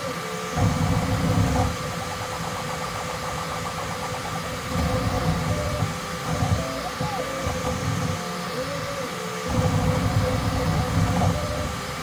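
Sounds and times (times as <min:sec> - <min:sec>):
print head rattle: 0:00.0 - 0:12.0
printer mechanical hum: 0:00.0 - 0:12.0.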